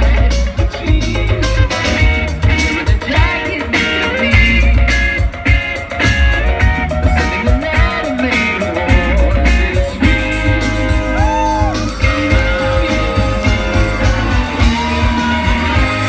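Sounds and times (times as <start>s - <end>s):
bass: 0.0s - 16.0s
drums: 0.0s - 16.0s
electric guitars: 0.0s - 16.0s.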